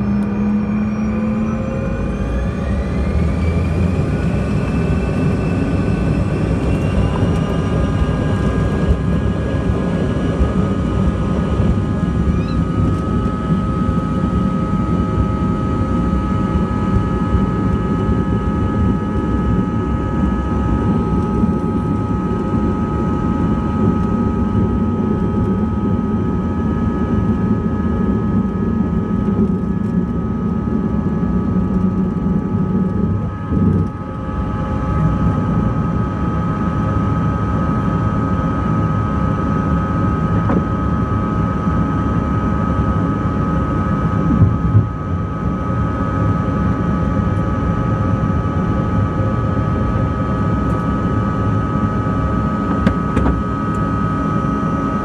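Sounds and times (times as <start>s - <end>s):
jet engine whine and rumble: 0.0s - 55.0s.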